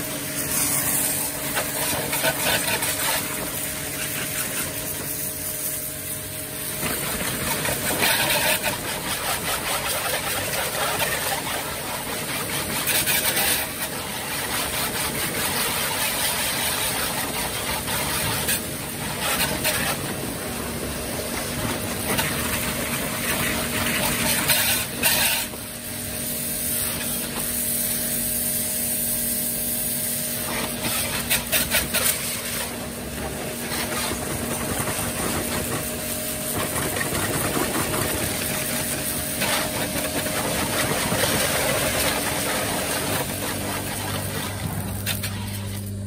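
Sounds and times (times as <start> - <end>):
pressure washer water jet hissing: 0.0 - 46.0
pump tone: 0.0 - 46.0.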